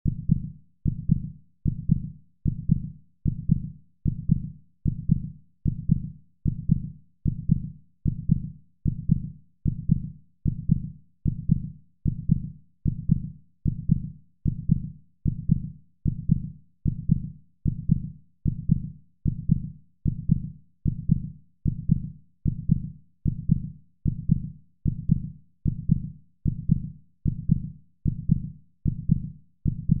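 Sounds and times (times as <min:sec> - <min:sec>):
heartbeat thumps: 0:00.1 - 0:30.0.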